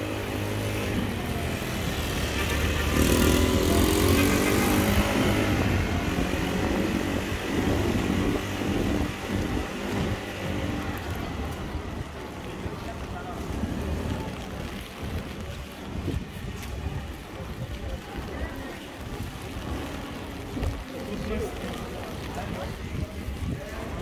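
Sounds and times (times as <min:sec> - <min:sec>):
tyres hissing on wet road: 0:00.0 - 0:24.0.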